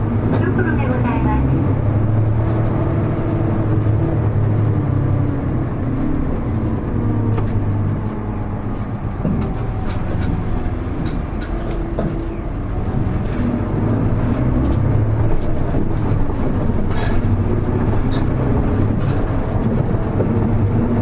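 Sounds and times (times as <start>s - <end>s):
bus engine drone: 0.0s - 21.0s
small rattles in cabin: 0.1s - 21.0s.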